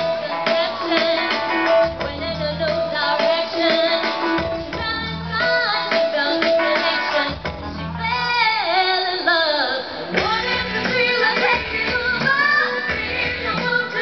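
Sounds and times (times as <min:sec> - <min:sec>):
live pop band with guitar: 0:00.0 - 0:14.0.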